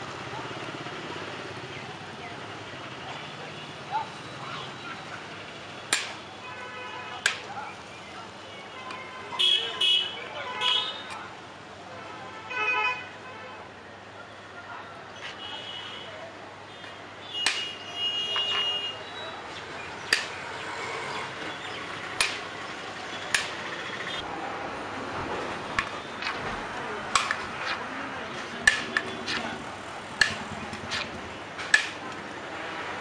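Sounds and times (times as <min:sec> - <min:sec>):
street noise: 0:00.0 - 0:33.0.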